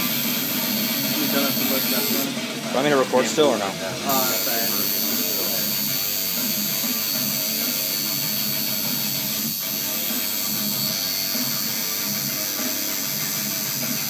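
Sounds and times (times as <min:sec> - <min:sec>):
tattoo machine buzzing: 0:00.0 - 0:02.4, 0:04.0 - 0:14.0
background music: 0:00.0 - 0:14.0.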